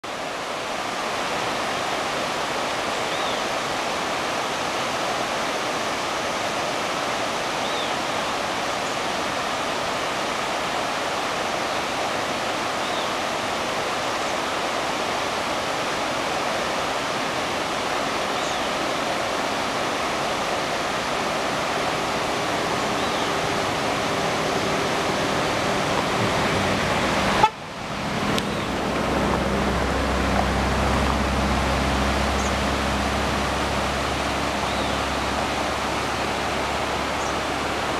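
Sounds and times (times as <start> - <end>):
river rapids rushing over rocks: 0.0 - 37.9.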